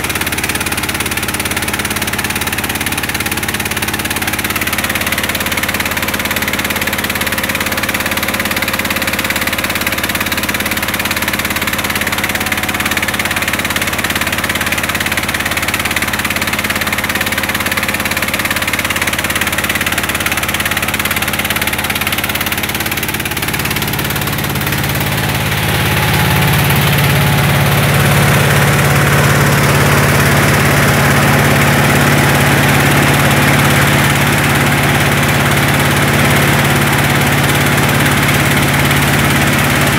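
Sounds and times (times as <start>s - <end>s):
rice mill engine running: 0.0s - 39.9s.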